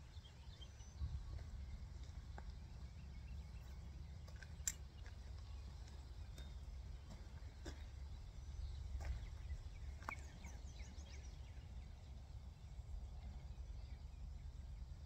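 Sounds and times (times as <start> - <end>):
birds calling: 0.0 - 15.0
low rumble of wind: 0.0 - 15.0.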